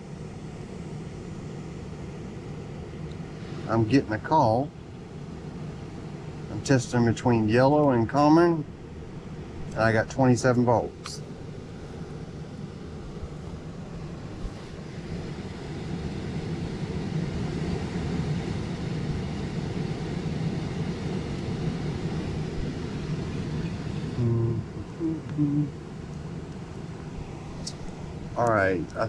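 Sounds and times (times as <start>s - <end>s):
blower low hum: 0.0s - 29.0s.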